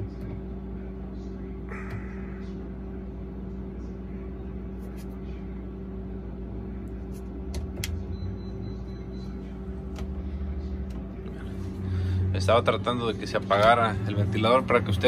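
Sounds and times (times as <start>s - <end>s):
refrigerator fan humming: 0.0s - 15.0s.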